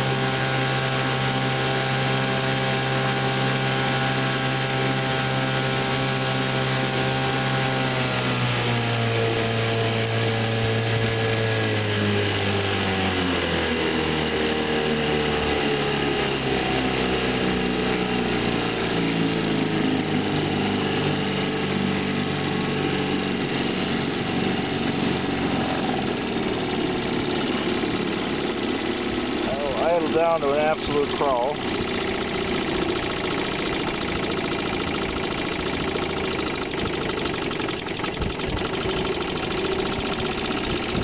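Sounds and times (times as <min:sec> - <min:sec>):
outboard motor running: 0:00.0 - 0:41.0.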